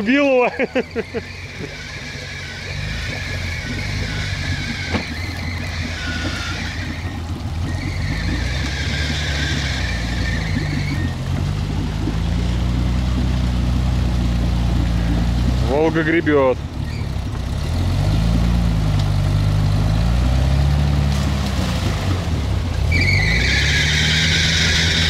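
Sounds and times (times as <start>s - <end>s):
engine revving under load: 0.0s - 25.0s
wheels digging through mud: 0.0s - 25.0s.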